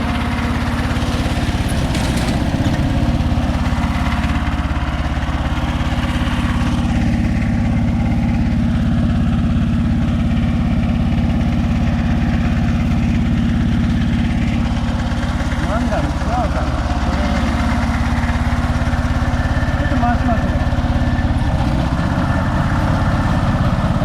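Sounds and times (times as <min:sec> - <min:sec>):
harvester engine running: 0:00.0 - 0:24.0.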